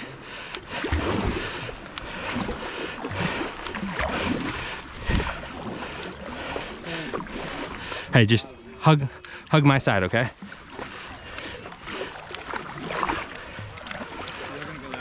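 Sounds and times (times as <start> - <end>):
kayak paddle strokes in water: 0.0 - 15.0
water washing along hull: 0.0 - 15.0.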